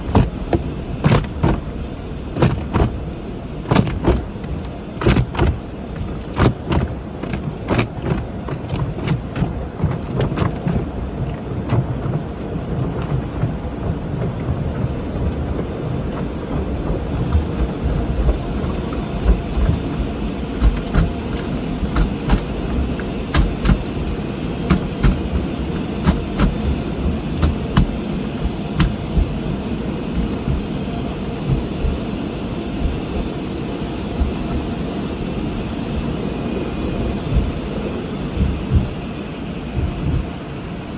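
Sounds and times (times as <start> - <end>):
brushes and water knocking on car: 0.0 - 40.5
car wash rumbling: 0.0 - 40.9.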